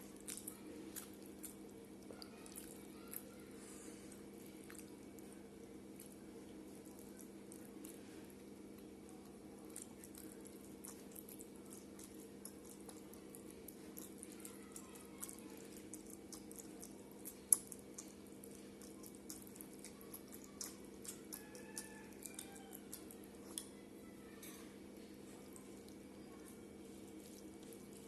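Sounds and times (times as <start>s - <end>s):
wet chewing and smacking: 0.0s - 3.5s, 4.1s - 23.8s, 25.0s - 28.0s
steady low hum: 0.0s - 28.0s.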